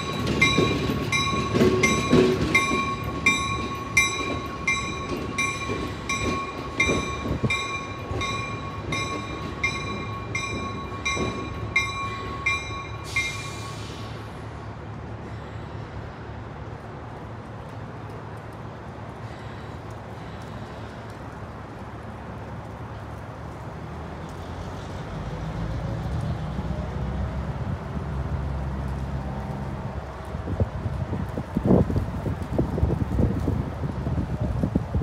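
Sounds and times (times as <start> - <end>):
diesel locomotive engine rumbling: 0.0 - 35.0.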